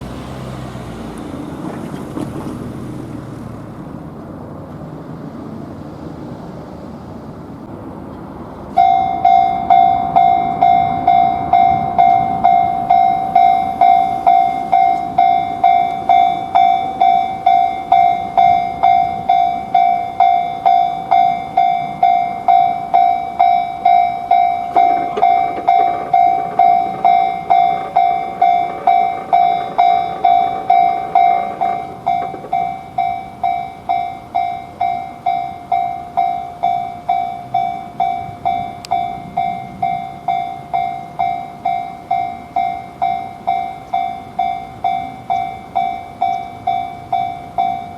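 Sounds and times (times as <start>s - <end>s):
level-crossing warning bell: 8.6s - 47.9s.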